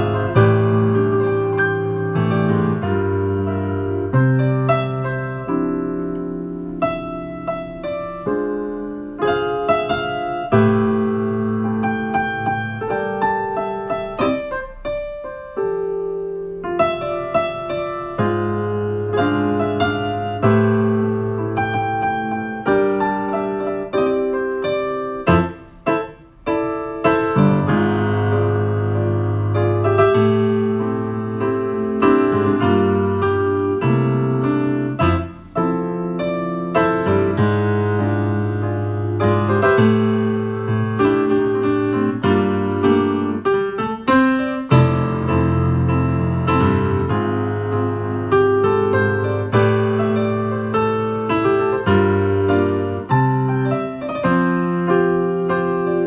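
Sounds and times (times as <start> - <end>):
slow solo piano: 0.0 - 56.0.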